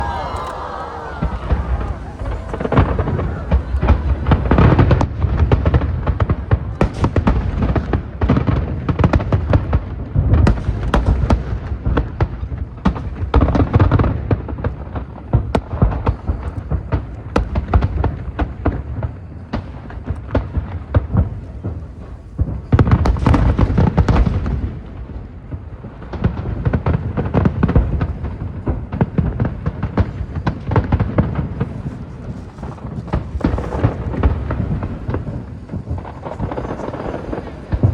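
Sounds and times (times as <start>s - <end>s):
fireworks booming and crackling: 0.0s - 37.9s.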